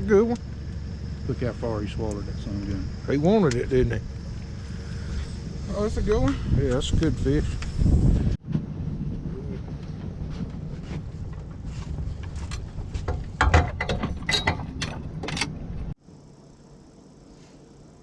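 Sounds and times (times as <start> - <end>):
boat motor humming: 0.0 - 16.3.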